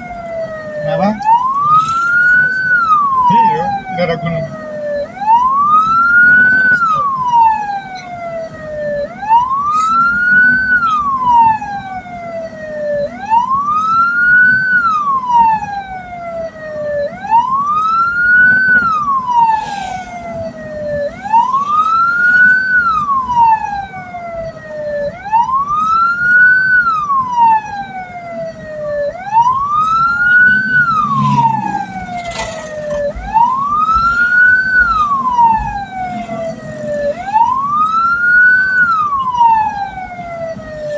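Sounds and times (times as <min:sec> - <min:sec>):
electronic siren wailing: 0:00.0 - 0:40.9
low vehicle hum: 0:00.0 - 0:40.9.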